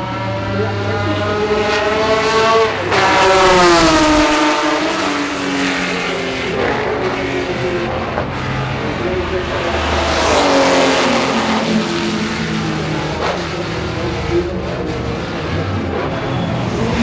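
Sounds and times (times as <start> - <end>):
engine running: 0.0 - 17.0
race car passing by: 0.0 - 17.0.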